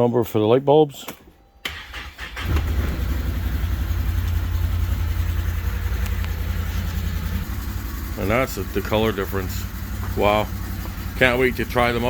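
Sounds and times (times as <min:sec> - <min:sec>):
engine starting and idling: 0:01.6 - 0:12.0.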